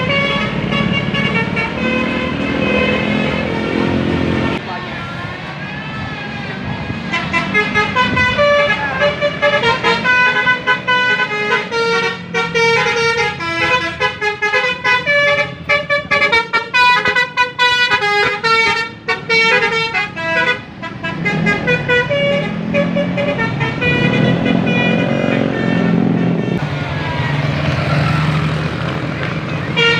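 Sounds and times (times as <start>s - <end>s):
multi-tone bus air horn melody: 0.0s - 4.6s, 7.0s - 26.6s, 29.6s - 29.9s
bus engine rumbling: 0.0s - 29.9s.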